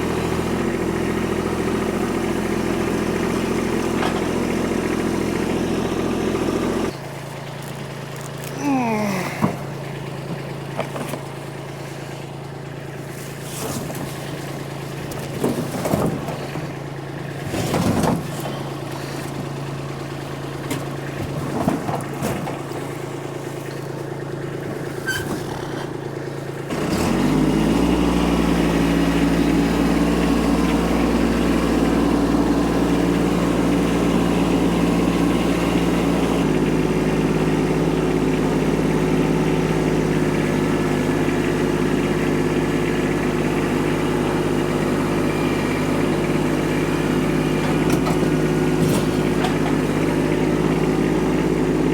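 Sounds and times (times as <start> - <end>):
tractor engine idling: 0.0 - 51.9.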